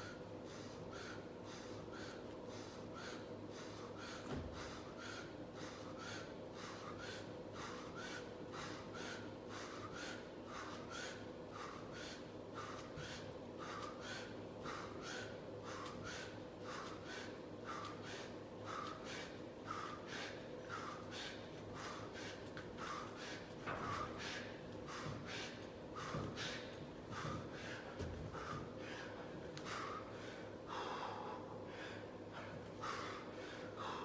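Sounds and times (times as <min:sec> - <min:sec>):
man breathing hard: 0:00.0 - 0:34.0.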